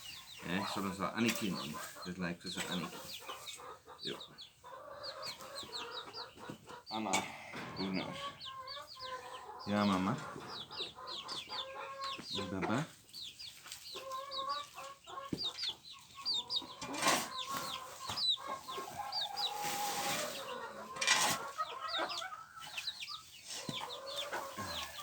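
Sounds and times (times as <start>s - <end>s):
chicks peeping: 0.0s - 25.0s
hen clucking: 0.0s - 25.0s.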